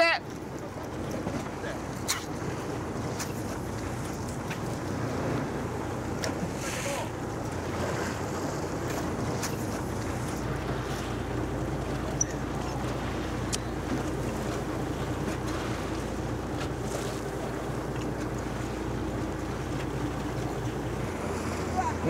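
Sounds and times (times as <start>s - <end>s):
boat engine running: 0.0s - 22.0s
water washing against hull: 0.0s - 22.0s.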